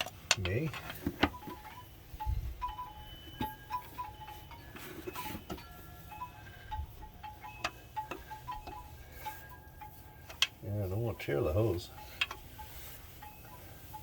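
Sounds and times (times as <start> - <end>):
metallic pings and chiming tones: 1.3 - 14.0.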